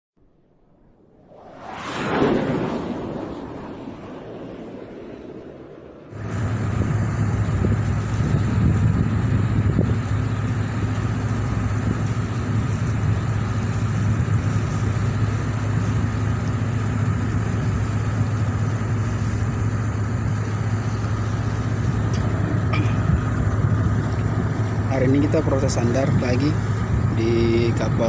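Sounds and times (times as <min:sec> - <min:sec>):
diesel engine droning: 0:03.5 - 0:28.0.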